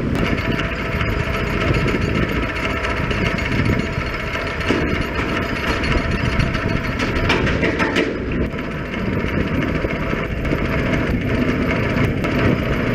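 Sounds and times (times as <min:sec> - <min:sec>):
vibratory pile hammer vibrating: 0:00.0 - 0:12.9.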